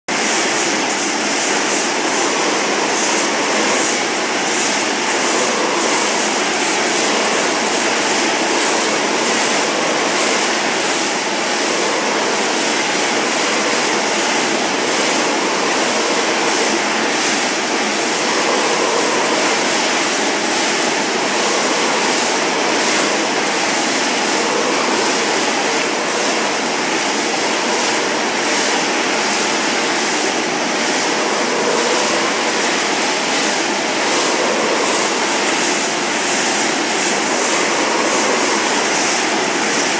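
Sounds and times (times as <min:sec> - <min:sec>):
packaging machinery din: 0:00.1 - 0:39.9.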